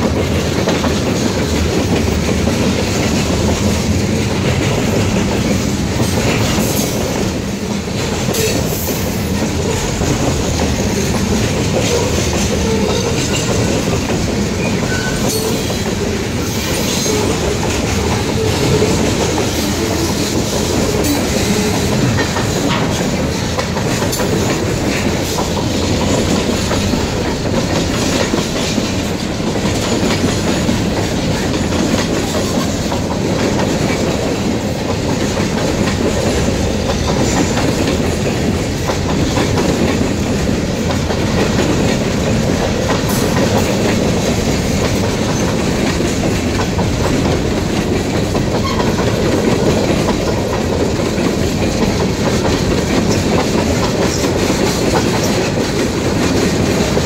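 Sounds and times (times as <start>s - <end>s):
steel wheels rumbling on rails: 0.0s - 57.0s
wheels clacking over rail joints: 0.0s - 57.0s.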